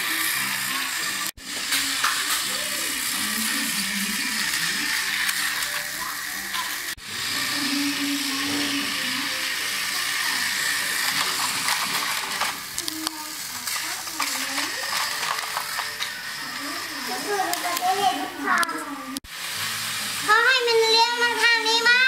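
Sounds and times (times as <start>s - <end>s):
toy train motor whirring: 0.0s - 22.0s.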